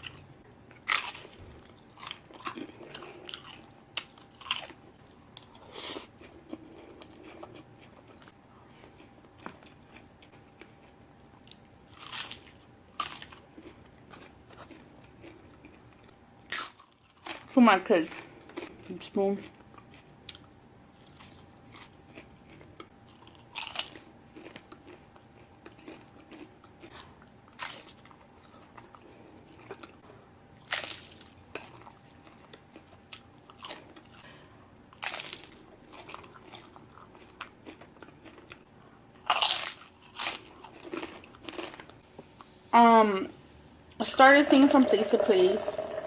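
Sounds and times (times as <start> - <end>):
person chewing crisp food: 0.0 - 17.5, 18.1 - 42.3.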